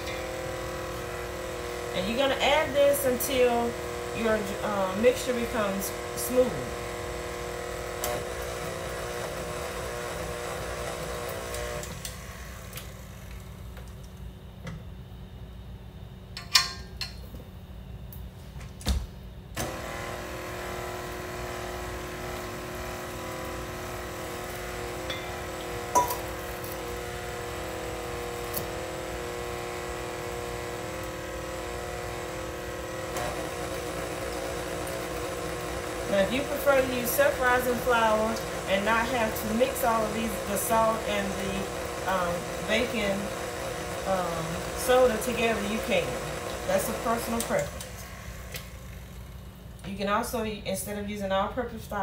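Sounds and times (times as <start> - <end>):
stand mixer running: 0.0 - 14.0, 19.6 - 49.8.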